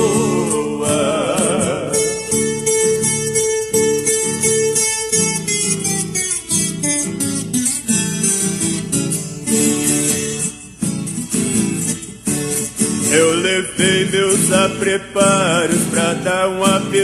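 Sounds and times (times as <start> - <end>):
steel-string guitar plucking: 0.0 - 17.0.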